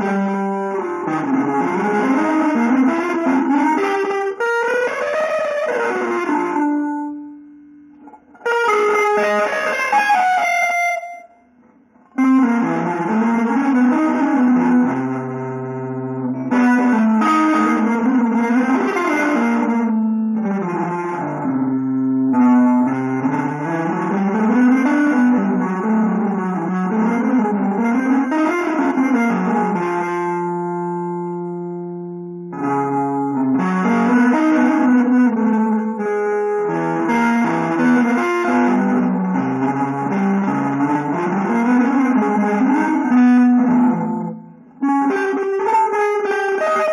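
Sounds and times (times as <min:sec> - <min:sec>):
guitar chords: 0:00.0 - 0:46.9.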